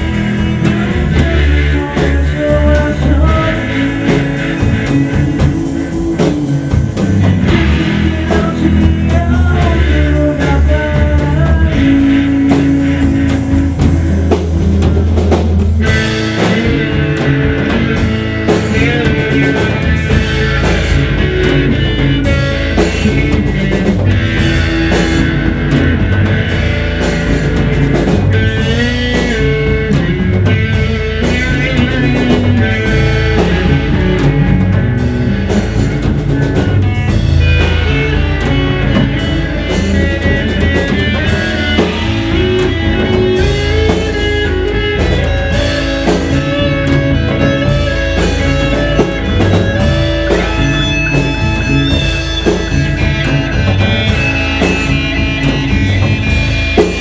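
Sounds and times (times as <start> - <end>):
drum kit playing: 0.0 - 57.0
electric guitar lines: 0.0 - 57.0.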